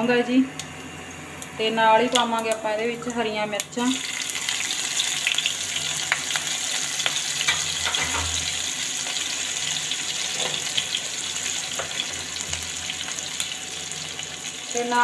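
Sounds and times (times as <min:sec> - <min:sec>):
spices sizzling in hot oil: 0:00.5 - 0:15.0.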